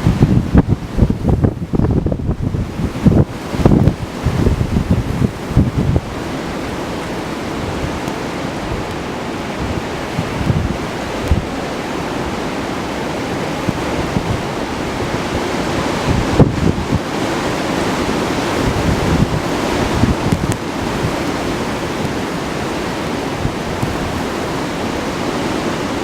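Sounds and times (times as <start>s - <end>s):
blizzard wind rushing: 0.0s - 26.0s
wind buffeting microphone: 0.0s - 26.0s.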